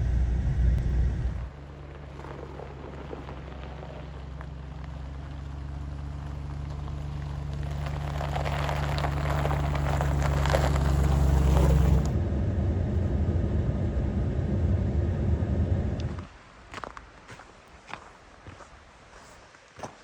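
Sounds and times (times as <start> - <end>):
truck engine drone: 0.0 - 16.3
road noise: 0.0 - 19.6.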